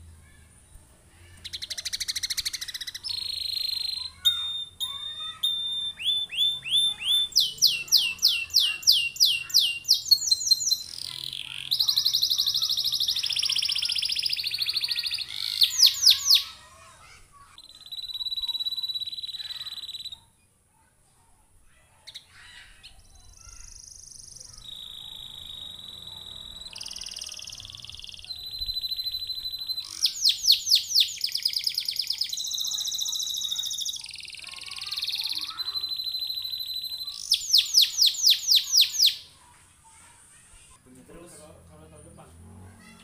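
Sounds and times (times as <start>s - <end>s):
canary singing: 1.2s - 20.5s, 22.1s - 39.5s.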